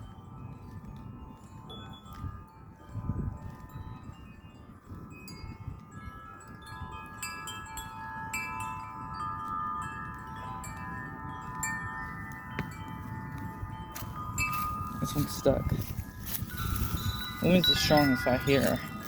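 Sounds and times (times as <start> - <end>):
low wind rumble: 0.0 - 19.0
wind chimes ringing: 0.0 - 19.0.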